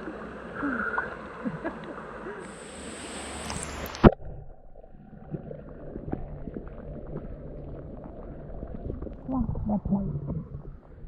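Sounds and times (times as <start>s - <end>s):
muffled underwater bubbling: 0.0s - 11.0s.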